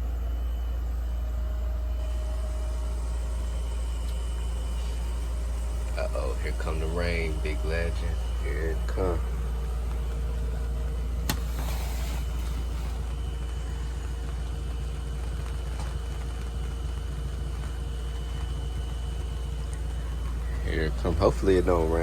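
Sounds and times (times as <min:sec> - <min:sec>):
faint high whine: 0:00.0 - 0:22.0
low machine hum: 0:00.0 - 0:22.0.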